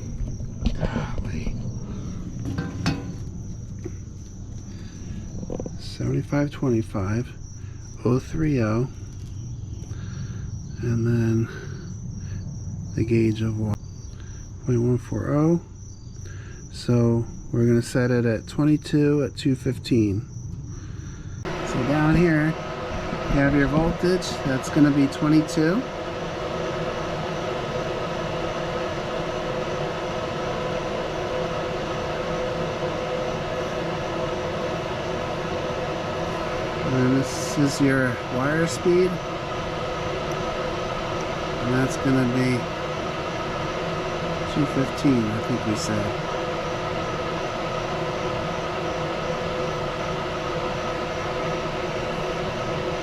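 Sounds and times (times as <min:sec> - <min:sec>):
fan whirring: 0:00.0 - 0:53.0.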